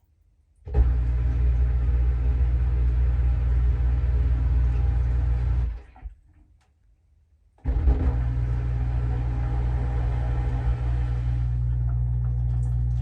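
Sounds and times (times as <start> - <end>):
dishwasher pump motor humming: 0.7 - 5.9, 7.7 - 13.0.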